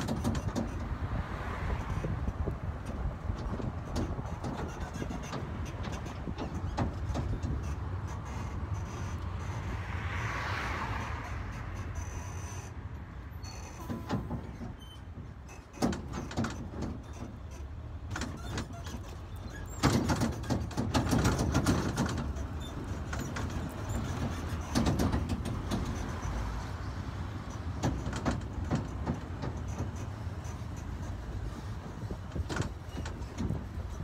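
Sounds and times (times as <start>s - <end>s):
carriage rattles and knocks: 0.0s - 9.7s, 13.6s - 34.0s
train rolling rumble: 0.0s - 34.0s.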